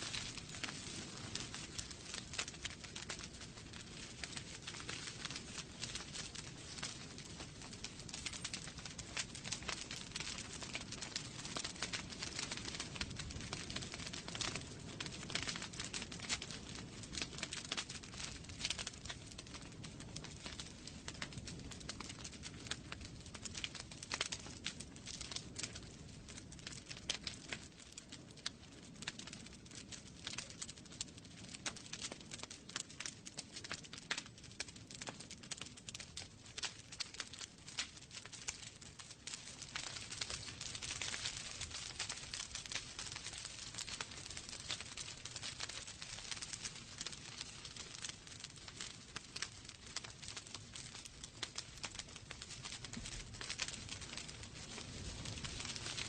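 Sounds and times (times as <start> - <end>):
logs crackling and popping: 0.0 - 56.0
soft rumble of flames: 0.0 - 56.0.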